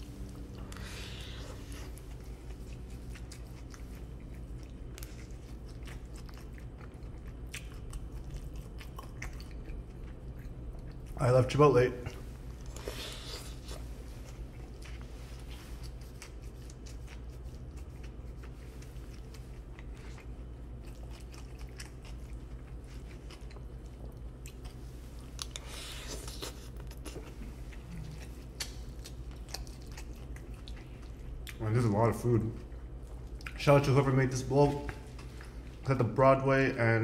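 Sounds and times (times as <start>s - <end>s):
close-up chewing: 0.0s - 11.3s, 12.0s - 31.7s, 32.6s - 34.0s, 34.7s - 35.9s
steady low hum: 0.0s - 37.0s.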